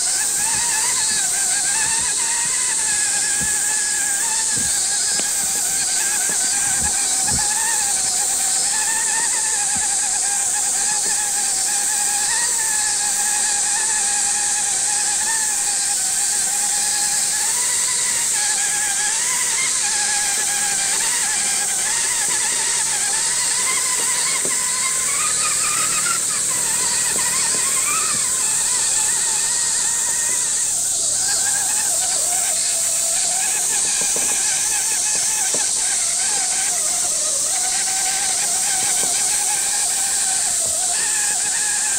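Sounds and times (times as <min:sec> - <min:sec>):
electric motor whining: 0:00.0 - 0:41.9
steady high hiss: 0:00.0 - 0:41.9.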